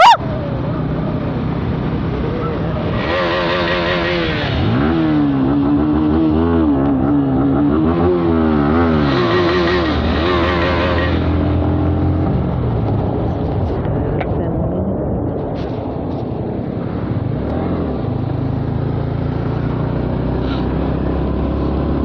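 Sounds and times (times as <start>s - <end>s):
motorcycle engine revving: 0.0s - 13.3s, 16.8s - 22.0s.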